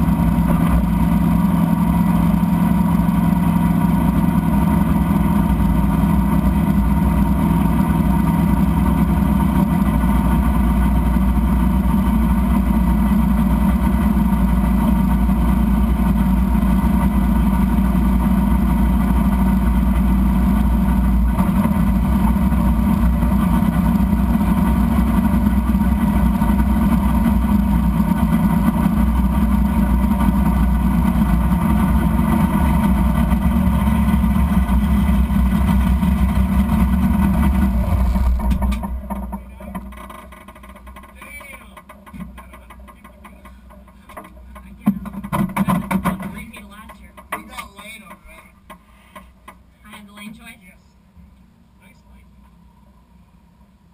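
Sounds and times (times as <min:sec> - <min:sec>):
engine running at low revs: 0:00.0 - 0:48.5.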